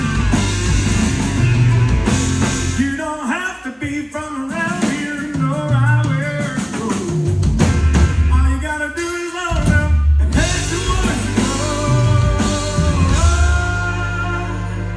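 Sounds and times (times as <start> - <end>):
country rock band playing: 0.0 - 14.9
man singing lead vocal: 2.8 - 14.9.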